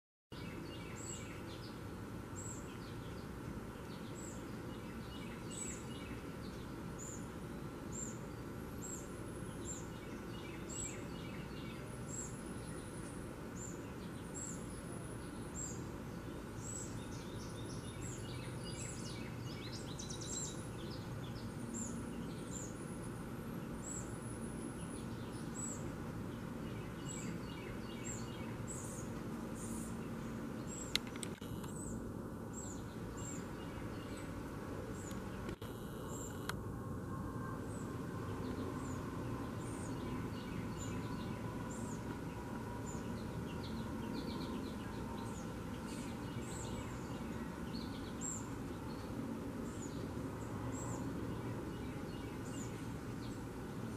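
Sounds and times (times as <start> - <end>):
steady background hiss: 0.4 - 53.9.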